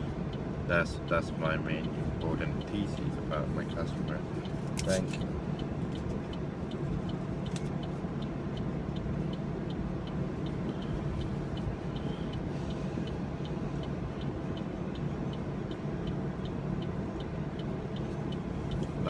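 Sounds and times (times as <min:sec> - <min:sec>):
car engine idling hum: 0:00.0 - 0:19.0
light regular ticking: 0:00.0 - 0:19.0.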